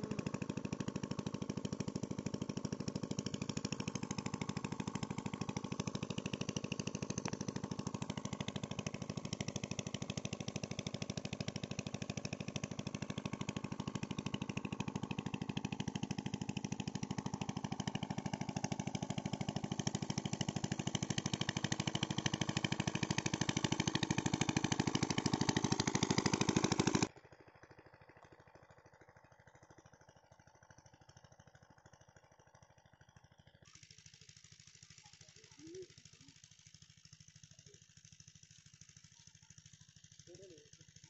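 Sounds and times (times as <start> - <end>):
small engine water pump running: 0.0 - 41.0.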